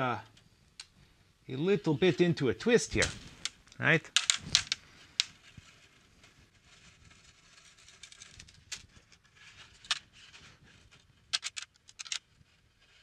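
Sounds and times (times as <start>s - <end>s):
guitar strings rustling and scraping: 0.0s - 13.0s.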